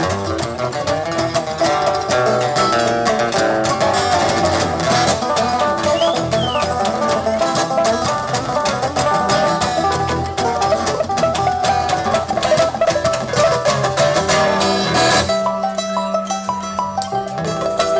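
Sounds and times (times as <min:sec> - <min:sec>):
acoustic guitar: 0:00.0 - 0:17.9
banjo picking: 0:00.0 - 0:17.9
drum kit beat: 0:00.0 - 0:17.9
mandolin: 0:00.0 - 0:17.9
upright bass: 0:00.0 - 0:17.9.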